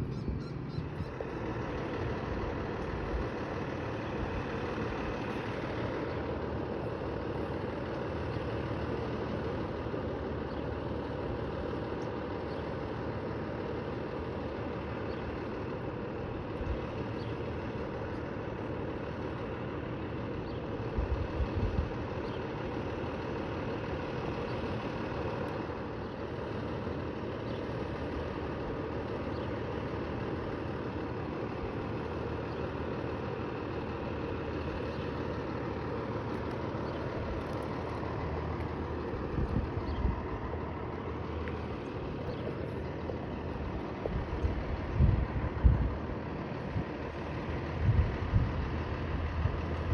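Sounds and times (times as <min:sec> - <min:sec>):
large engine idling: 0:00.0 - 0:49.9.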